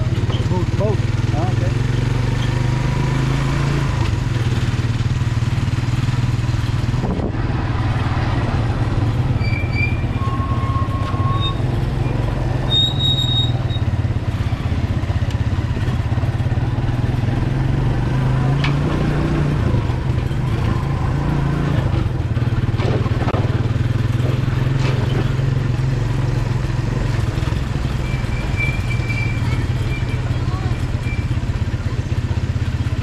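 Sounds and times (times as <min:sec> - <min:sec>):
small motorcycle engine running: 0:00.0 - 0:07.3, 0:13.3 - 0:33.0.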